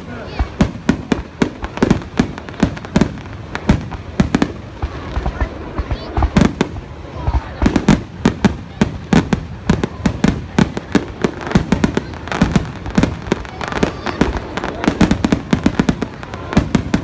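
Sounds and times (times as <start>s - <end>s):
fireworks bangs and booms: 0.0s - 17.0s.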